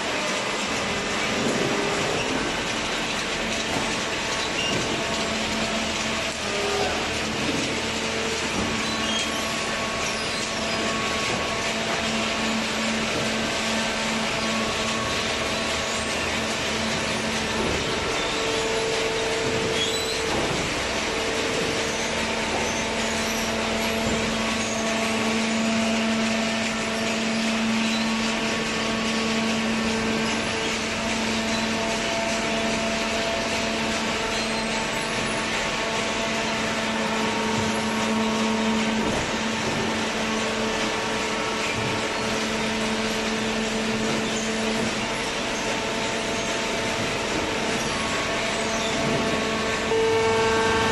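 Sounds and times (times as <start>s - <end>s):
baler machine hum and whine: 0.0s - 50.9s.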